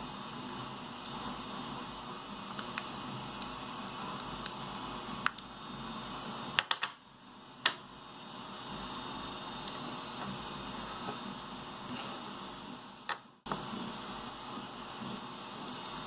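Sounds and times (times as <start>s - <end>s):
steady background hiss and hum: 0.0s - 16.0s.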